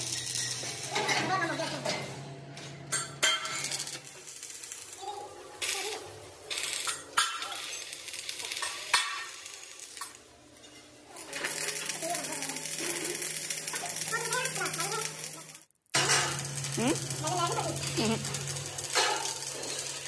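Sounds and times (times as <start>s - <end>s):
arc welding crackling: 0.0s - 1.8s, 3.2s - 20.0s.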